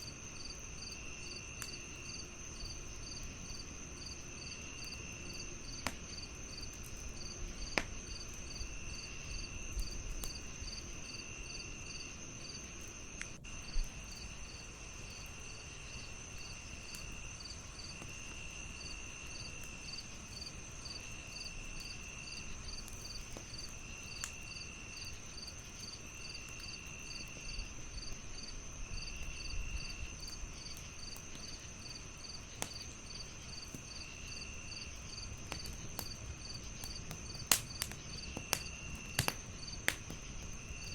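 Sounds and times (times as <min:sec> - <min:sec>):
crackling fire pops: 0:00.0 - 0:40.9
crickets chirping: 0:00.0 - 0:40.9.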